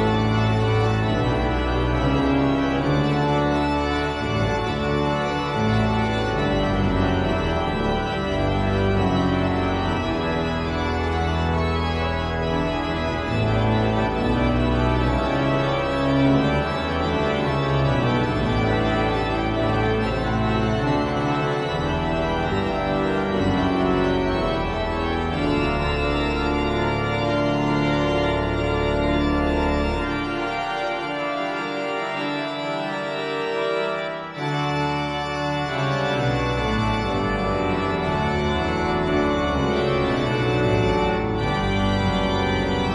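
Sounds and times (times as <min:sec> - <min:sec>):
deep organ pedal notes: 0:00.0 - 0:42.9
pipe organ playing chords: 0:00.0 - 0:42.9.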